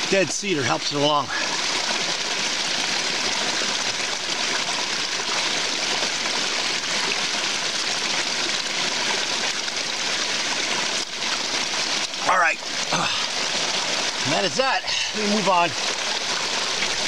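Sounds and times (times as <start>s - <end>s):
stream splashing over rocks: 0.0s - 17.0s.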